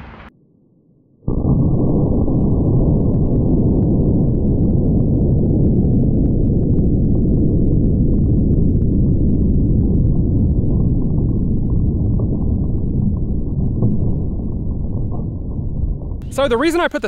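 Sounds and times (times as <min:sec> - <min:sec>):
deep low rumble: 0:01.3 - 0:16.4
faint crackles: 0:02.9 - 0:17.0.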